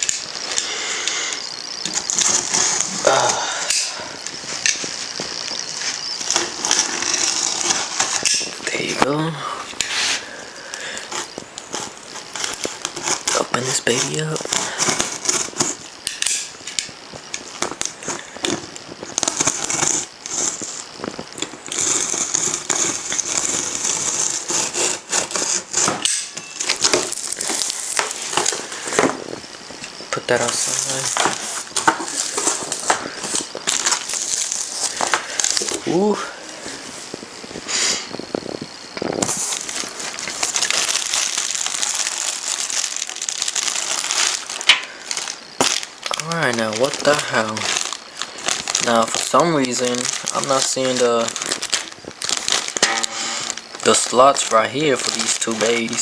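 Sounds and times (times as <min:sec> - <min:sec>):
packing tape crackling: 0:00.0 - 0:56.0
plastic bag crinkling: 0:00.0 - 0:56.0.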